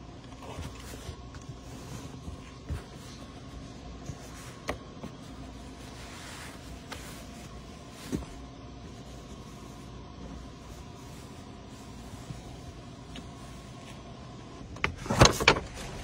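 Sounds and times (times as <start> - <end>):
steady low hum: 0.0 - 16.0
seat cover rustling: 0.3 - 14.2.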